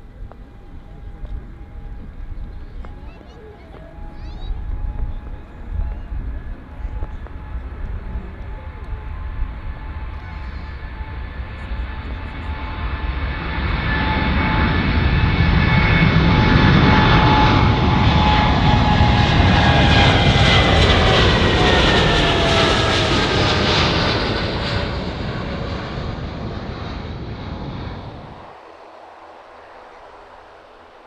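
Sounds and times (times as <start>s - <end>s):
jet airliner passing: 0.0s - 31.0s.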